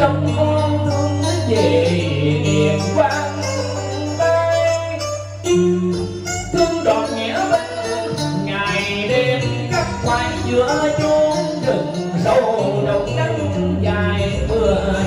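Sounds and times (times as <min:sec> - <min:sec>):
instrumental accompaniment: 0:00.0 - 0:15.0
man singing into microphone: 0:00.0 - 0:15.0.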